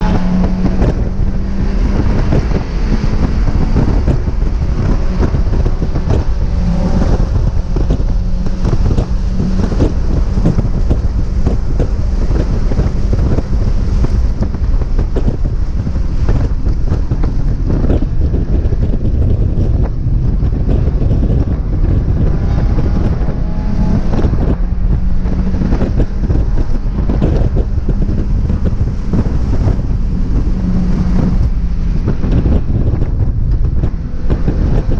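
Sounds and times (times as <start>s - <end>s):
car engine running hard: 0.0s - 34.9s
wind buffeting on microphone: 0.0s - 34.9s.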